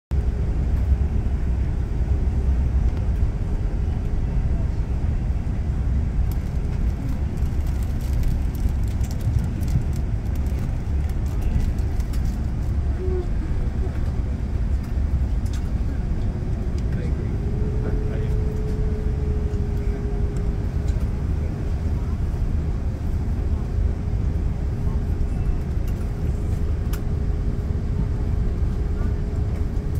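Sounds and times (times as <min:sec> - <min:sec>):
low cabin rumble: 0:00.1 - 0:29.9.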